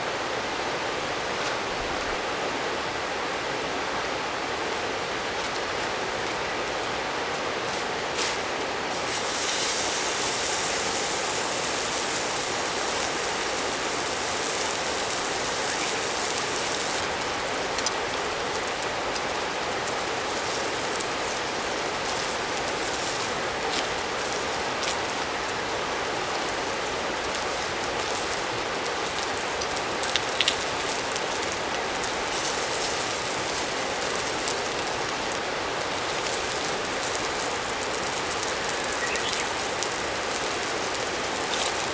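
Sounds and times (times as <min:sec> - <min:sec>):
mountain stream rushing: 0:00.0 - 0:41.9
sharp crackles: 0:05.4 - 0:41.9
bright hiss: 0:07.8 - 0:41.9.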